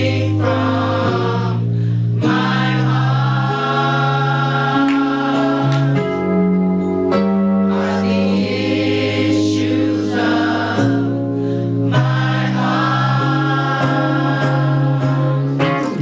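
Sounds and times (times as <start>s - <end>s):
choir singing long chords: 0.0s - 6.6s, 7.6s - 16.0s.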